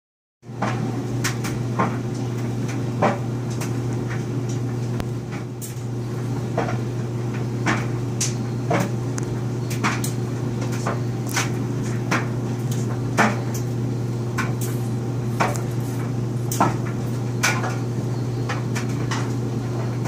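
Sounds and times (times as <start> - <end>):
steady low hum: 0.4 - 20.0.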